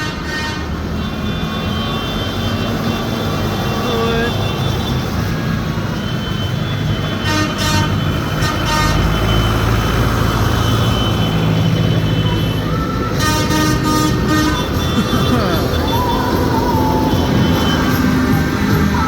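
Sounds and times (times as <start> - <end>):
horn tooting: 0.0 - 19.0
tractor engines droning: 0.0 - 19.0.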